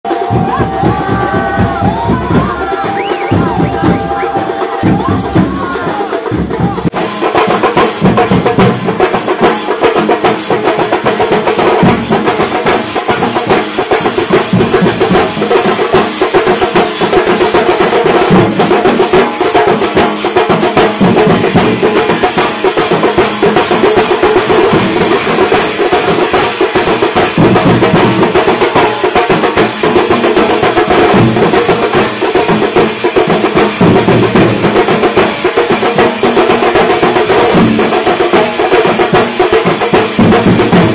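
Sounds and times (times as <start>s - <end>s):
loud music with fast drumming: 0.0s - 40.9s.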